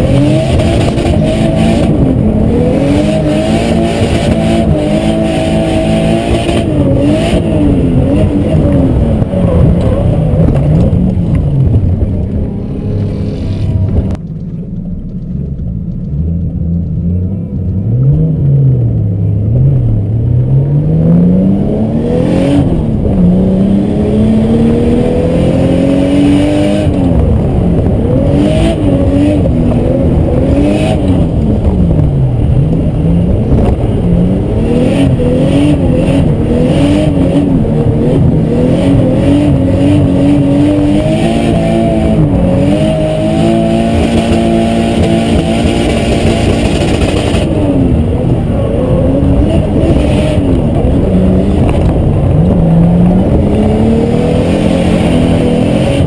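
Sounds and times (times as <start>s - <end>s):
car engine revving in cabin: 0.0s - 56.0s.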